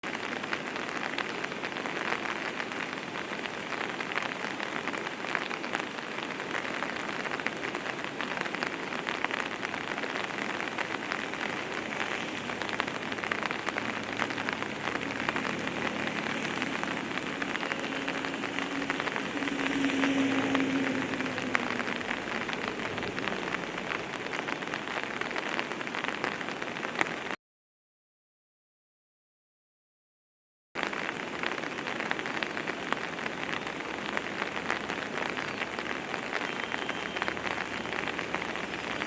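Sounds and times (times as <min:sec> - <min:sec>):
dense rushing water noise: 0:00.0 - 0:27.4, 0:30.8 - 0:39.0.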